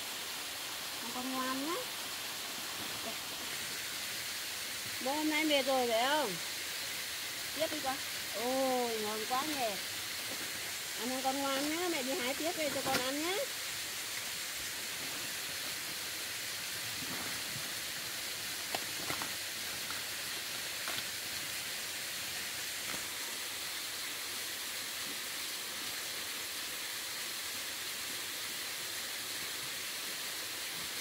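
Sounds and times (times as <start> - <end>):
waterfall rushing hiss: 0.0 - 31.0.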